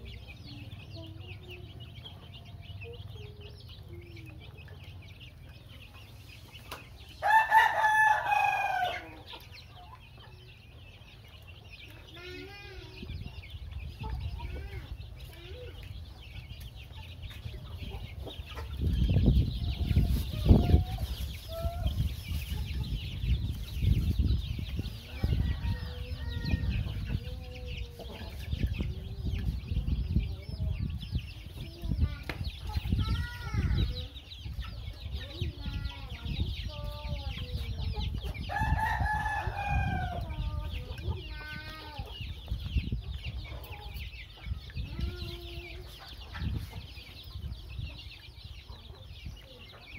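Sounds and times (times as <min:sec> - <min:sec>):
chickens clucking: 0:00.0 - 0:49.9
chicks peeping: 0:00.0 - 0:49.9.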